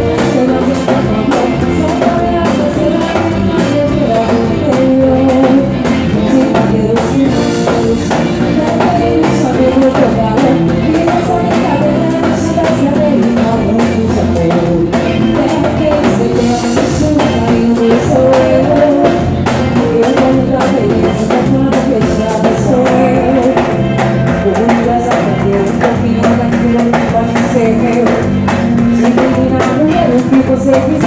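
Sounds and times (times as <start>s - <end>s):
guitar: 0.0s - 31.0s
live band playing: 0.0s - 31.0s.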